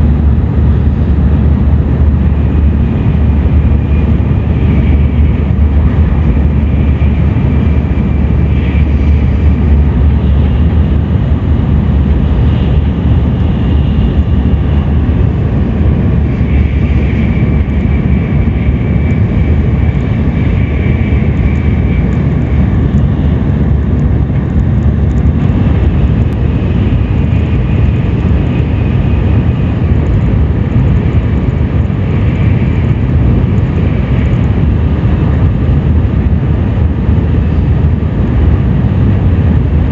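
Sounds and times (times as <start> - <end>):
faint high whine: 0.0 - 39.9
train running at speed: 0.0 - 39.9.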